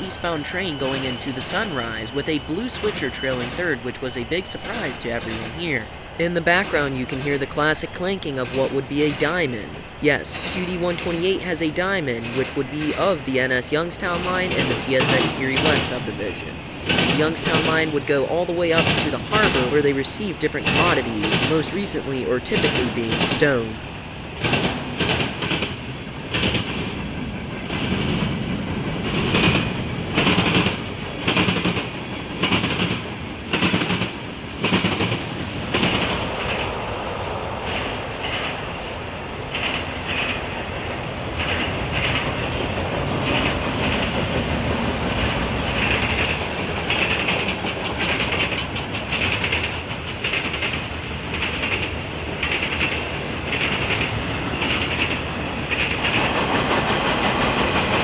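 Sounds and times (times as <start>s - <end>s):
train rolling noise with clicks: 0.0s - 58.0s
train wheels clanking over crossing: 0.0s - 58.0s.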